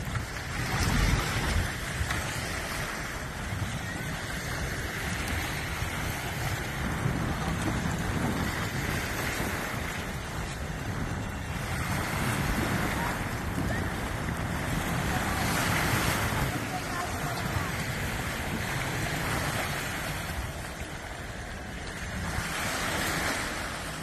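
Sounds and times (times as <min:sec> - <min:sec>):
small waves lapping: 0:00.0 - 0:24.0
wind buffeting microphone: 0:00.0 - 0:24.0.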